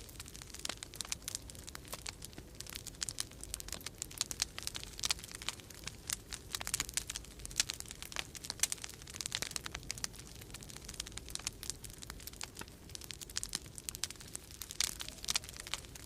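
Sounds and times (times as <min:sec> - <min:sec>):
low rumble of storm wind: 0:00.0 - 0:16.0
wood fire crackling: 0:00.0 - 0:16.0.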